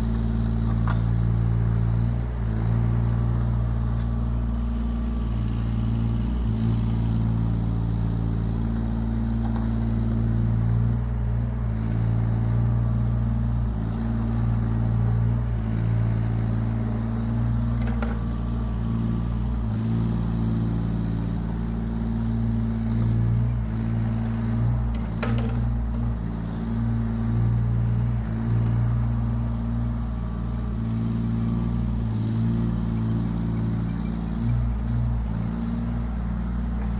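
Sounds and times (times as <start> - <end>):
diesel excavator engine running: 0.0 - 36.9.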